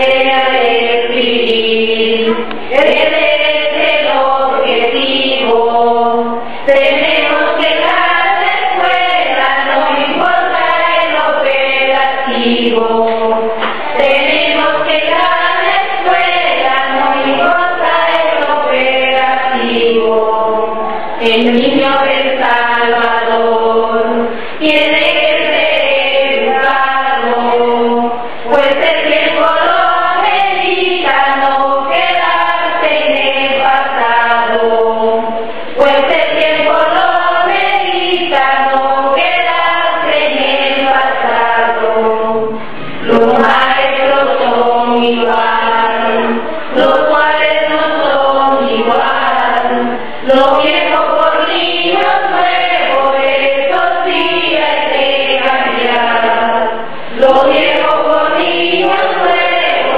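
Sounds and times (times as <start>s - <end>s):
choir singing slow chant: 0.0s - 59.9s.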